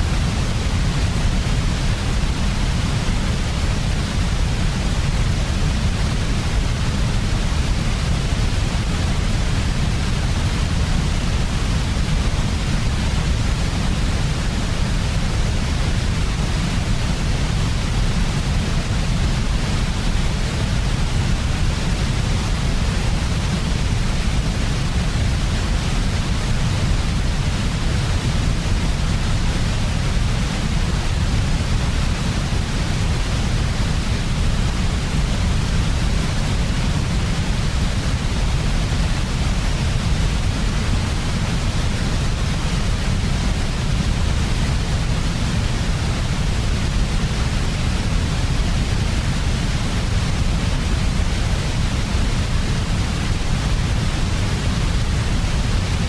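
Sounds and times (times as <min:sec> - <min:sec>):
white noise rumble and hiss: 0:00.0 - 0:56.0.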